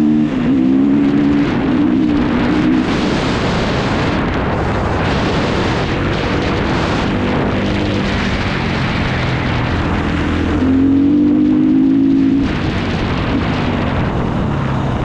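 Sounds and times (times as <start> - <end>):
dirt bike engine running: 0.0 - 15.0
wind rush on microphone: 0.0 - 15.0.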